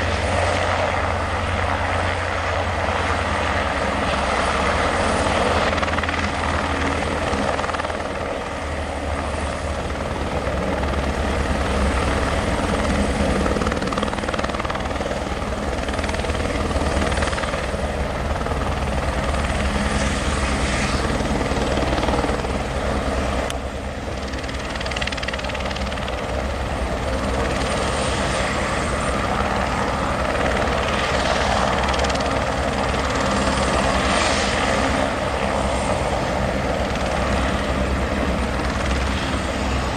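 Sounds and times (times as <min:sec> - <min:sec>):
helicopter rotor and turbine whine: 0:00.0 - 0:39.9.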